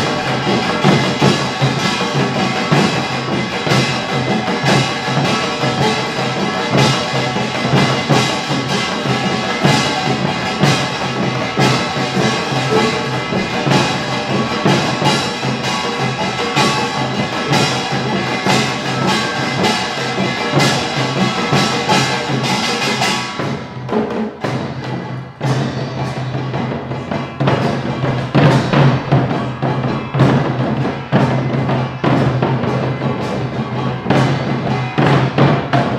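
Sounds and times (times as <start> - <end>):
barrel drums beating: 0.0 - 35.9
hourglass drums beating: 0.0 - 35.9
small gongs clanging: 0.0 - 35.9.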